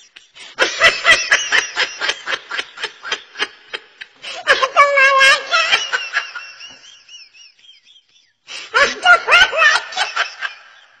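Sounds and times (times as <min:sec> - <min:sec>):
high-pitched laughing: 0:00.0 - 0:08.2, 0:08.8 - 0:11.0.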